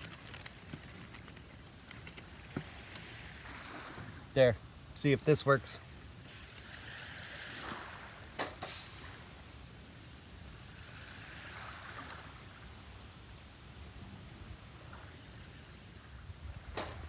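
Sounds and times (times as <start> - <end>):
faint outdoor ambience hiss: 0.0 - 17.0.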